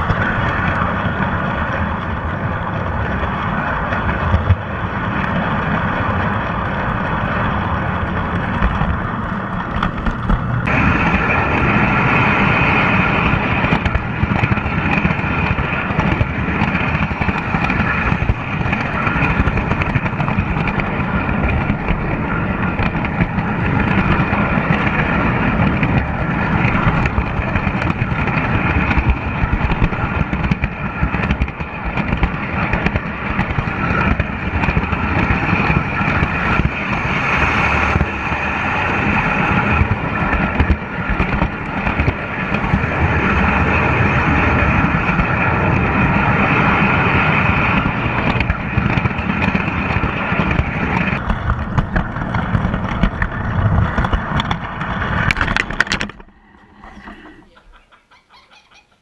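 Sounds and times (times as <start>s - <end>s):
wheels rattling on rails: 0.0s - 59.0s.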